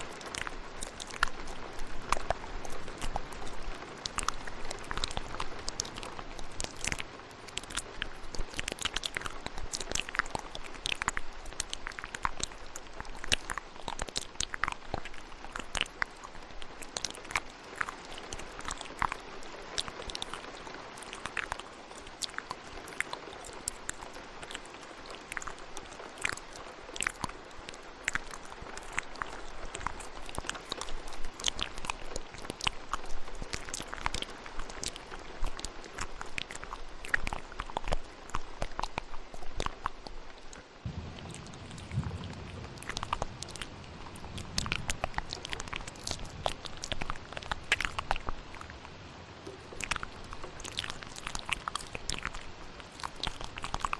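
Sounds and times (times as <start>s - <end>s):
rain hiss: 0.0s - 53.9s
wet mouth clicks and smacks: 0.0s - 53.9s.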